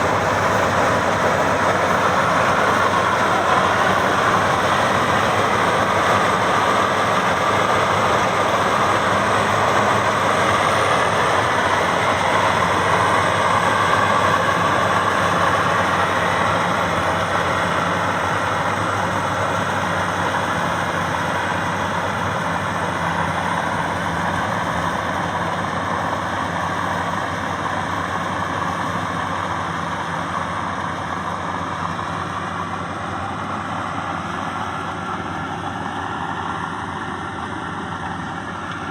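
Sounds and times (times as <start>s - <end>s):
combine harvester running: 0.0s - 38.9s
low engine hum: 0.0s - 38.9s.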